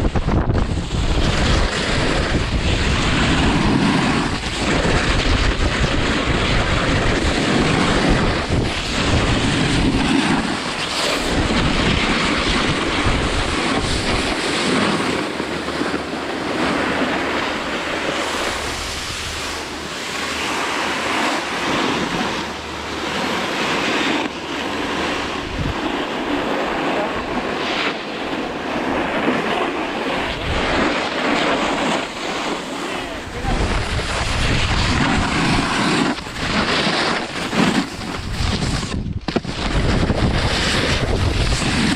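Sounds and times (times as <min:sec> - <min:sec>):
wind buffeting microphone: 0:00.0 - 0:41.9
skis hissing on packed snow: 0:00.6 - 0:22.5, 0:23.2 - 0:41.9.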